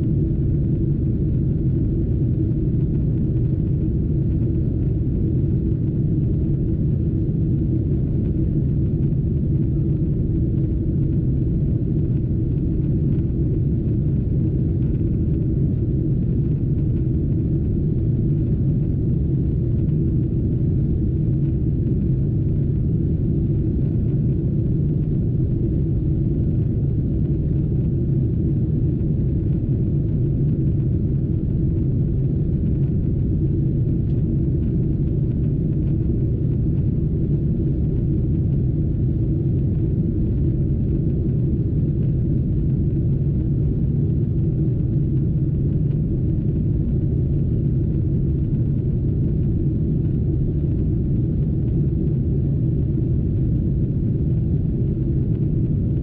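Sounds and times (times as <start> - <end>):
airflow over fuselage: 0.0 - 56.0
jet engines droning: 0.0 - 56.0.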